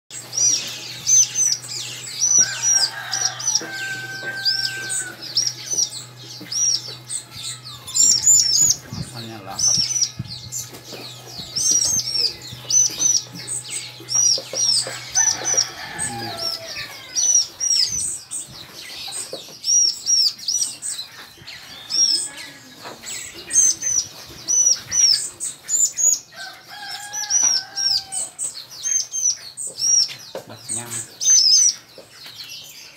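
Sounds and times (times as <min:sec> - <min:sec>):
bird chick begging chirps: 0:00.1 - 0:32.9.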